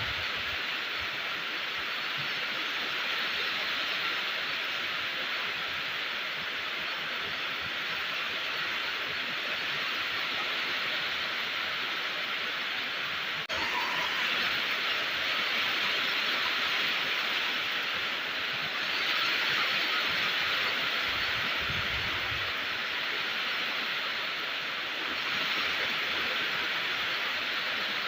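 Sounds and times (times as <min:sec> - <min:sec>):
rain hissing: 0:00.0 - 0:28.0.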